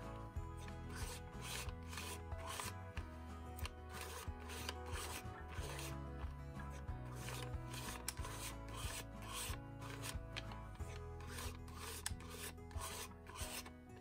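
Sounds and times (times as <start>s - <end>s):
palette knife scraping paint: 0.0s - 14.0s.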